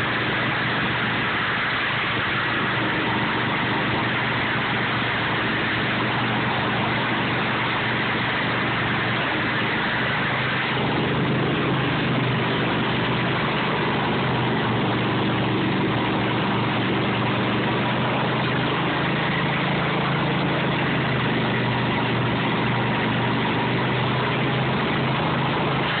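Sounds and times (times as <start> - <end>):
snowblower engine running: 0.0 - 26.0.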